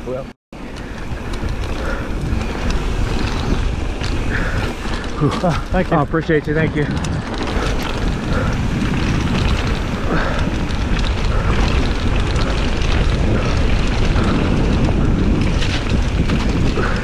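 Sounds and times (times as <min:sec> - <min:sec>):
bike rattling over bumps: 0:00.0 - 0:17.0
tyres rumbling on dirt: 0:00.0 - 0:17.0
wind rushing over microphone: 0:00.0 - 0:17.0.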